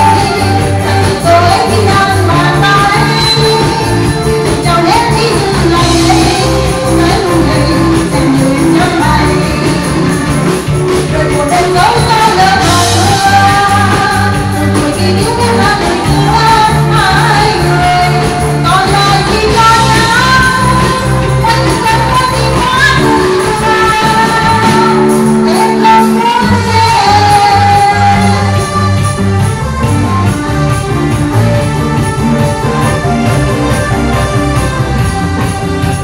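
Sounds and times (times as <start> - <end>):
live band music: 0.0 - 36.0
repeating bass line: 0.0 - 36.0
sung melody: 0.0 - 36.0.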